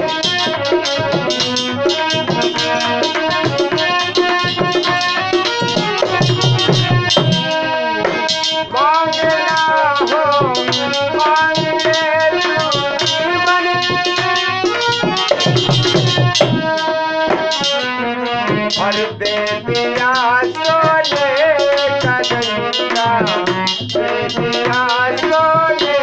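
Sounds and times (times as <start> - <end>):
hand drums fast beat: 0.0 - 26.0
melody instrument with pitch bends: 0.0 - 26.0.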